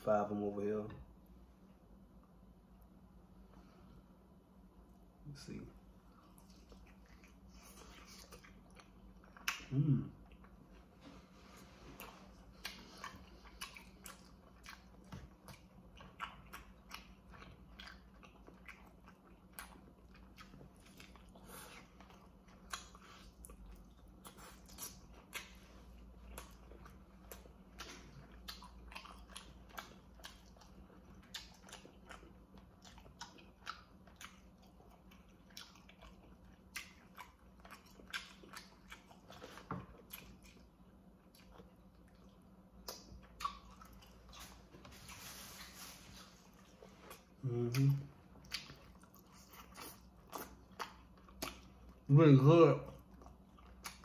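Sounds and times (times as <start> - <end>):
chewing with mouth clicks: 5.9 - 54.0.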